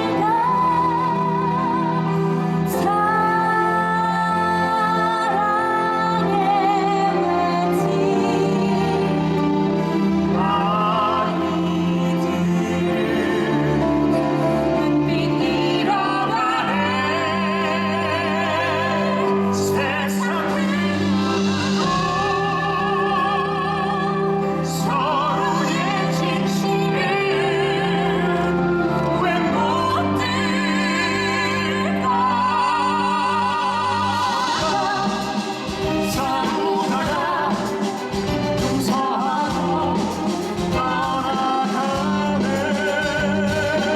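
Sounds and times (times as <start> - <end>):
orchestral accompaniment: 0.0 - 43.9
person singing with vibrato: 0.0 - 43.9.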